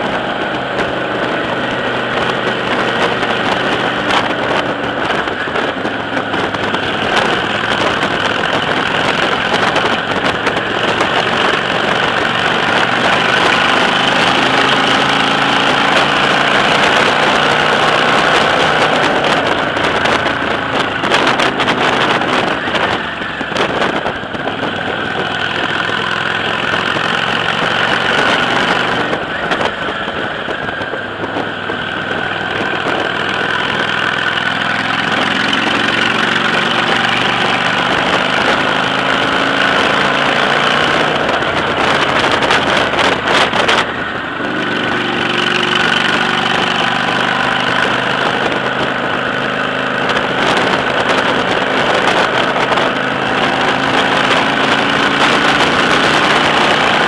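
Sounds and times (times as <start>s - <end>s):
motorcycle engine running: 0.0s - 57.0s
wind rush over microphone: 0.0s - 57.0s.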